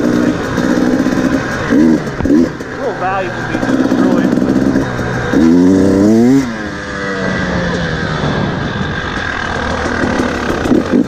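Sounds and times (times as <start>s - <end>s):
two-stroke dirt bike engine: 0.0s - 11.0s.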